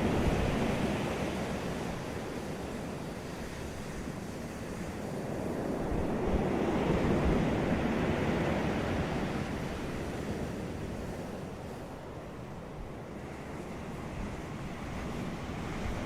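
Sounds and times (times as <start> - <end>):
low rumble of surf: 0.0 - 16.0.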